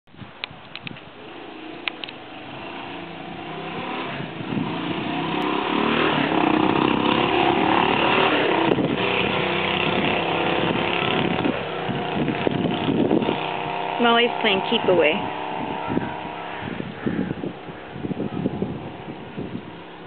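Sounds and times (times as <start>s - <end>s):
engine running: 0.7s - 20.0s.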